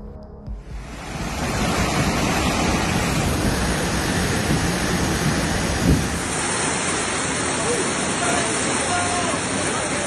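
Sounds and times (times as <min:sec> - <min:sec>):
wind: 0:00.0 - 0:10.0
rushing water: 0:00.8 - 0:10.0.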